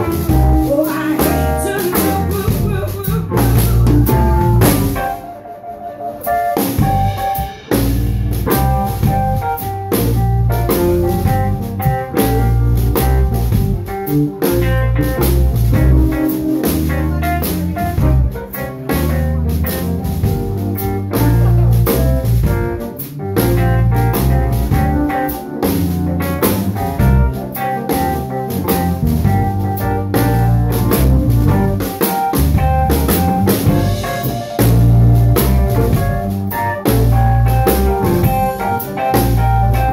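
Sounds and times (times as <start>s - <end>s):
electric bass: 0.0s - 5.2s, 6.6s - 39.9s
drum kit: 0.0s - 39.9s
electric stage piano: 0.0s - 39.9s.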